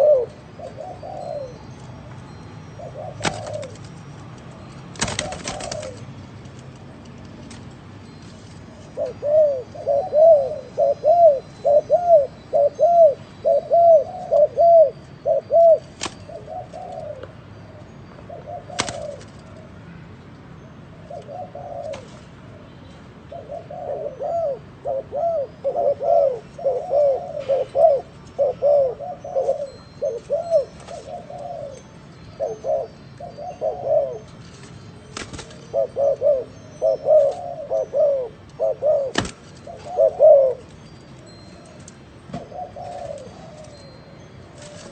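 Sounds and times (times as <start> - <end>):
dove cooing: 0.0 - 3.9, 4.9 - 6.2, 8.8 - 19.8, 20.9 - 44.9.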